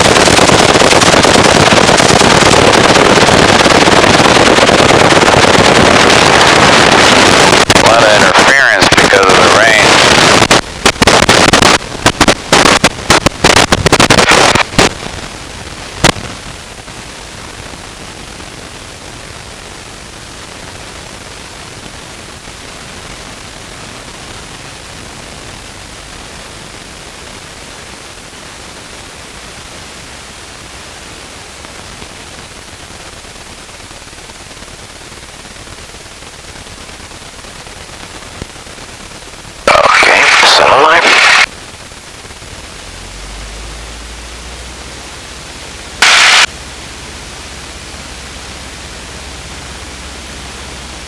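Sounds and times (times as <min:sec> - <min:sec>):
crackling radio static: 0:00.0 - 0:51.0
steady radio hiss: 0:00.0 - 0:51.0.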